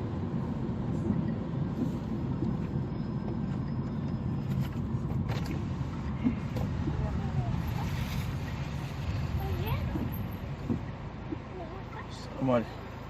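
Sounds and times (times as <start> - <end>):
car tyre and engine rumble: 0.0 - 13.0.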